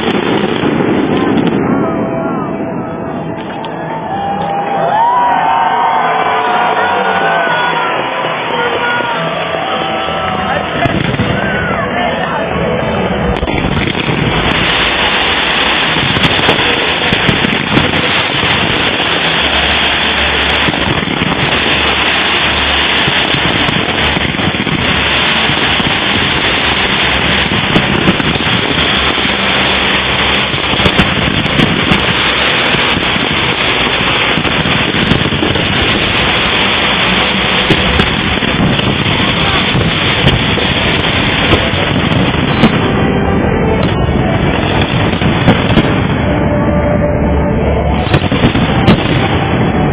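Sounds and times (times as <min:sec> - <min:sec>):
fireworks crackling and banging: 0:00.0 - 0:49.9.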